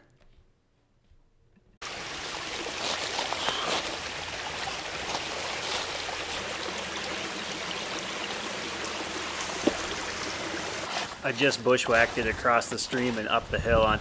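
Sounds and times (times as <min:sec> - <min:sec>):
creek babbling over stones: 0:01.8 - 0:13.5.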